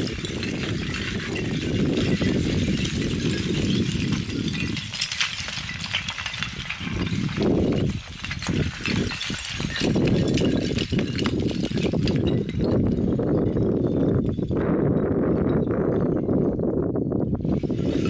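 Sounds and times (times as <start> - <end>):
rocks clinking and clattering: 0.0 - 18.0
wind rumble on microphone: 0.0 - 18.0.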